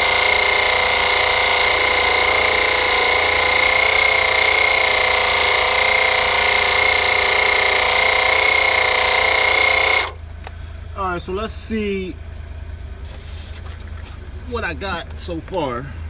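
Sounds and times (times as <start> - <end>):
air compressor running: 0.0 - 10.9, 12.8 - 16.0.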